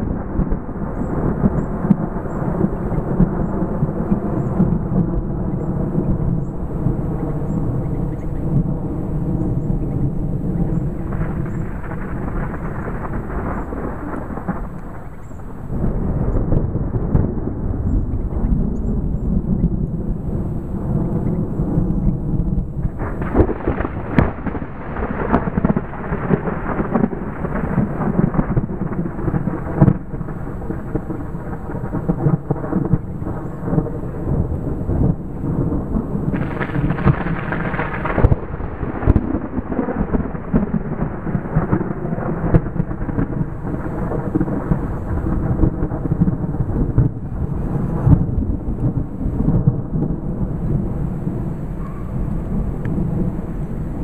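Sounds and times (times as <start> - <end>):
thunder rumbling: 0.0 - 54.0.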